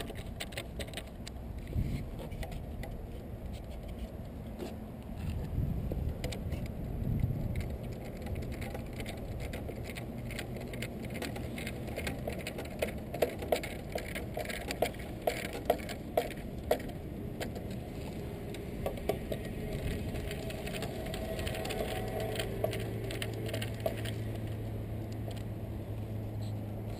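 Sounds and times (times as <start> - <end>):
low background rumble: 0.0 - 26.9.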